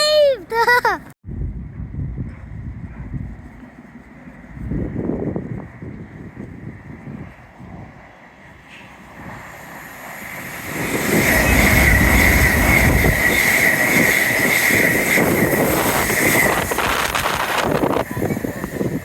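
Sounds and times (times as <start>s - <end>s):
passenger train passing: 3.4s - 19.0s.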